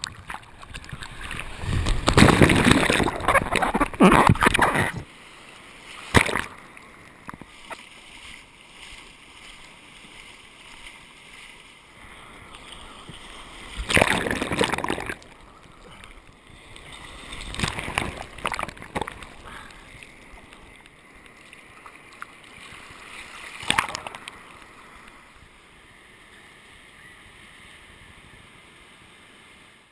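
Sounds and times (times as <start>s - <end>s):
waves splashing over camera: 0.0s - 29.7s
low rush of water: 0.0s - 29.9s.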